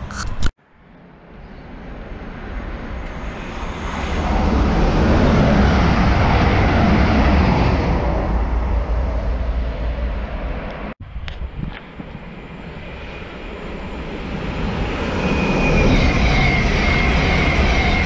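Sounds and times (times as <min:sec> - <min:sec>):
train passing at speed: 0:00.8 - 0:11.0, 0:11.9 - 0:18.0.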